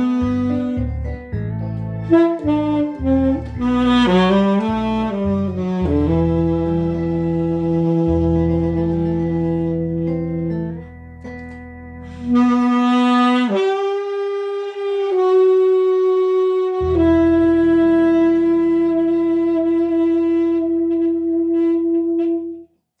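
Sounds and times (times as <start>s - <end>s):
tenor saxophone playing a ballad: 0.0s - 11.0s, 12.0s - 22.7s
backing track: 0.0s - 22.0s.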